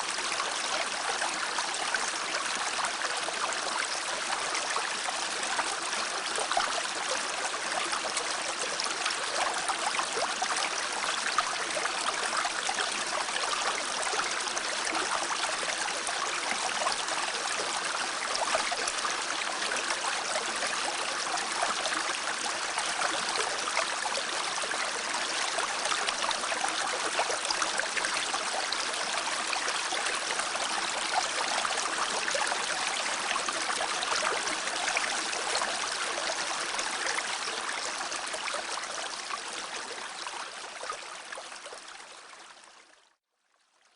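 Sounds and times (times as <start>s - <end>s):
stream water running: 0.0s - 43.0s.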